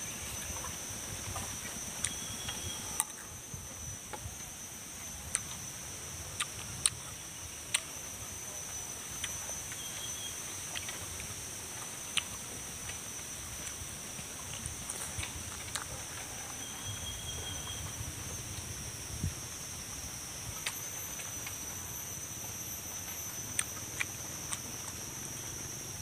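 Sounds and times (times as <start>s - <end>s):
high drone of insects: 0.0s - 26.0s.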